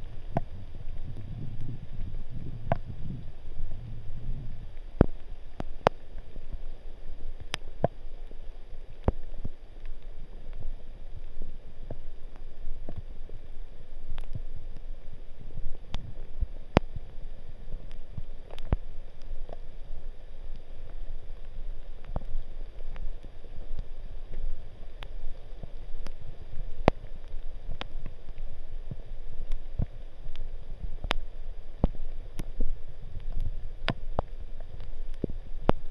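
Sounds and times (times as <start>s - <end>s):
low rumble: 0.0s - 35.9s
raindrops dripping from trees: 0.0s - 35.9s.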